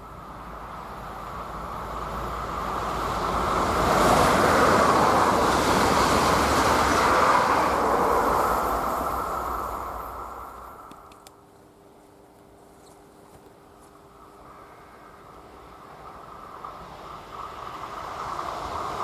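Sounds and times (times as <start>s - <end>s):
train wheels rumbling on rail: 0.0s - 11.3s, 13.9s - 19.0s.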